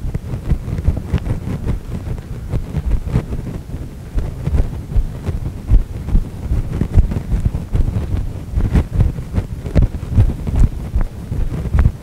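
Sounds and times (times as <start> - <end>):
low rumble on microphone: 0.0 - 12.0.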